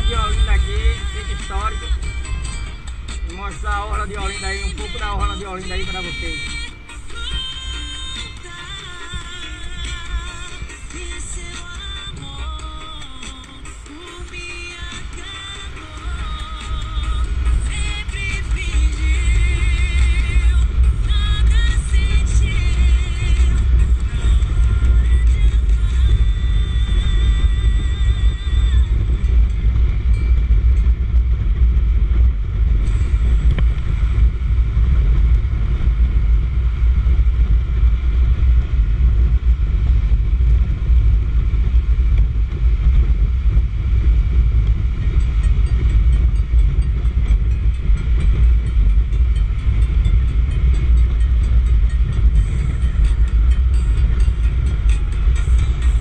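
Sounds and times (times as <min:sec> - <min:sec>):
road noise: 0:00.0 - 0:56.0
wind rumble on microphone: 0:00.0 - 0:56.0.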